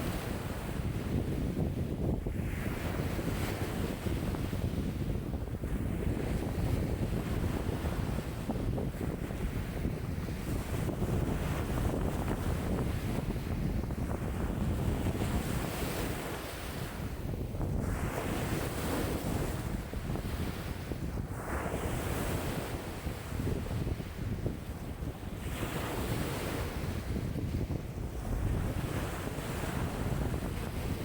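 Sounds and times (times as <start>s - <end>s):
waves breaking on shore: 0.0s - 31.0s
wind buffeting microphone: 0.0s - 31.0s.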